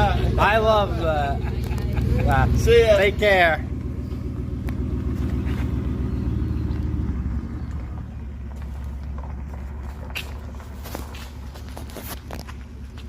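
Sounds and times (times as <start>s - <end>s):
truck exhaust rumbling: 0.0s - 13.0s.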